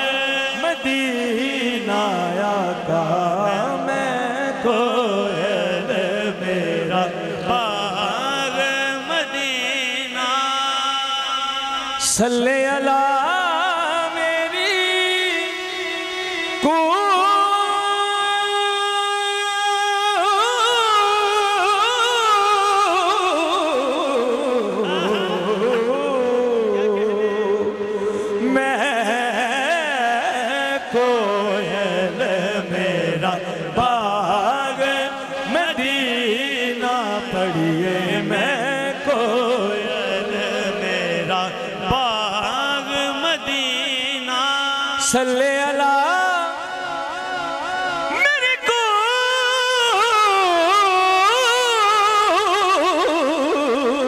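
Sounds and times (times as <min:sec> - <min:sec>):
man singing with vibrato: 0:00.0 - 0:54.0.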